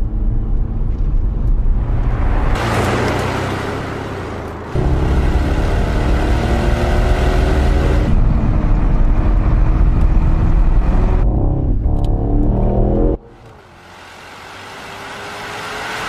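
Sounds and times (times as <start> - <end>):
car engine exhaust at speed: 0.0 - 16.0.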